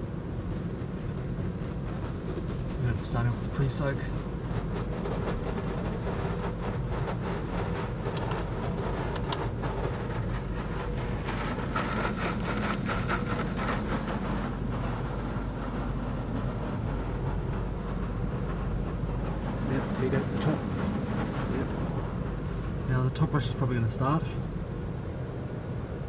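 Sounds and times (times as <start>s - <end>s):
steady low rumble: 0.0s - 26.0s
spray pattering on car windscreen: 0.8s - 23.8s.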